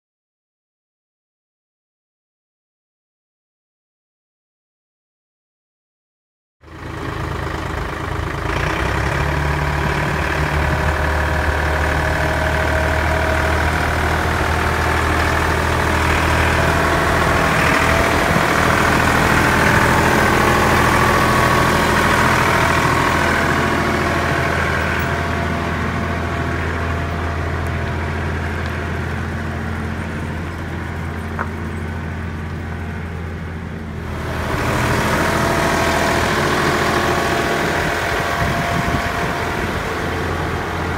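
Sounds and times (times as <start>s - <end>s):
tractor diesel engine passing: 6.6s - 40.9s.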